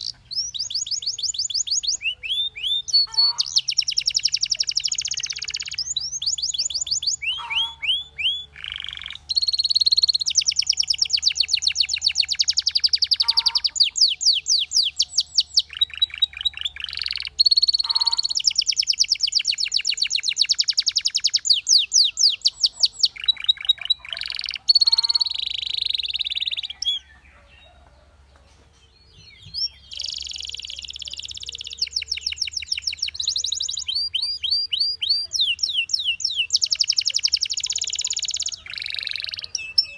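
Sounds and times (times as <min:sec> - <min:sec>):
canary singing trills: 0:00.0 - 0:28.1, 0:28.9 - 0:39.9.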